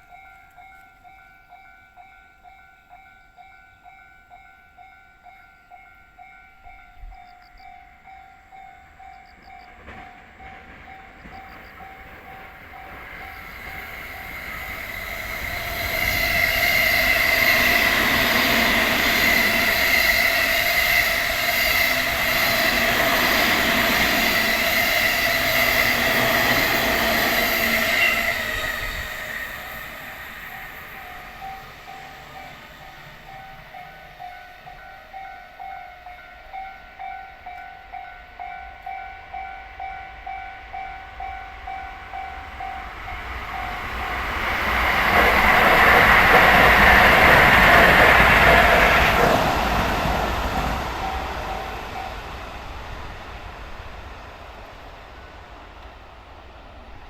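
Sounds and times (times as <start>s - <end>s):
level crossing warning bell: 0.0s - 29.0s, 29.6s - 52.4s
electric train passing: 0.0s - 57.0s.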